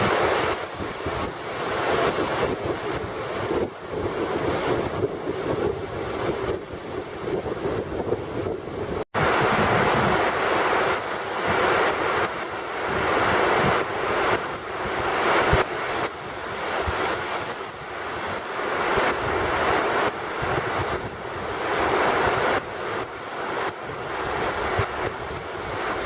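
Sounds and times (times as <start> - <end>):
heavy rain pouring: 0.0 - 6.5, 8.8 - 26.0
wind buffeting microphone: 0.0 - 26.0.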